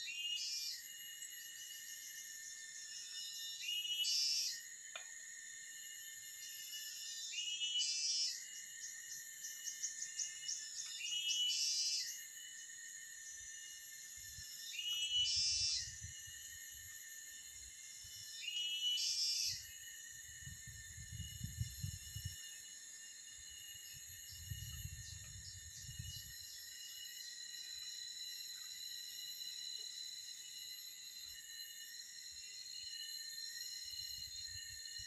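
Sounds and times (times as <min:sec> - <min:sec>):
high insect chorus: 0:00.0 - 0:35.0.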